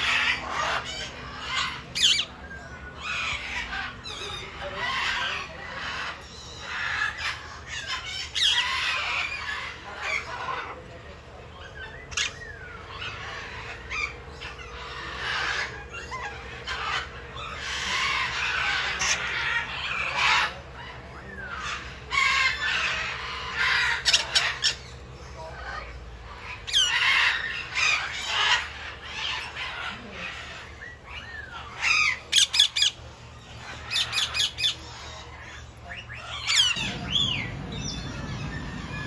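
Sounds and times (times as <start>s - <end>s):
birds squawking and chattering: 0.0s - 39.0s.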